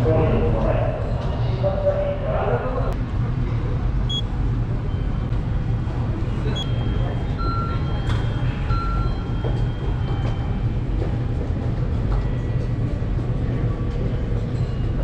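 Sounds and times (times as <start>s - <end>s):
railway station rumble: 0.0s - 15.0s.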